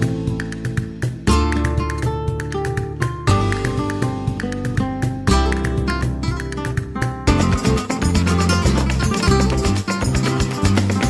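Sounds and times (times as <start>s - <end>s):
flamenco guitar music: 0.0s - 11.0s.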